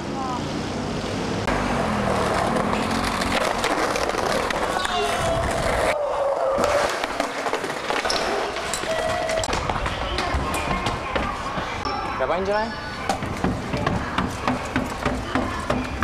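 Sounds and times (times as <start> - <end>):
skateboard wheels rolling on pavement: 0.0 - 11.8, 12.6 - 16.0.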